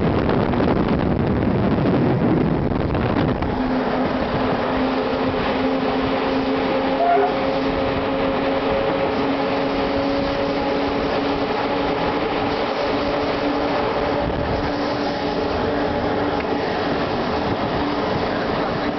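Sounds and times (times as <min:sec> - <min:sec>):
droning hum: 0:00.2 - 0:18.9
train wheels on rails: 0:03.1 - 0:18.9.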